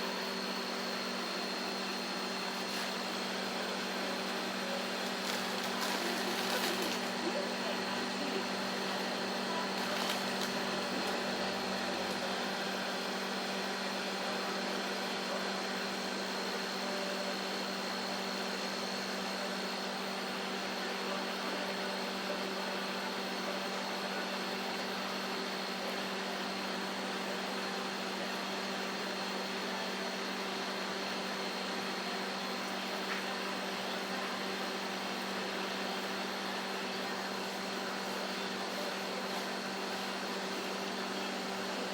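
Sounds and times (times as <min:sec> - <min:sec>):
microwave oven humming: 0:00.0 - 0:41.9.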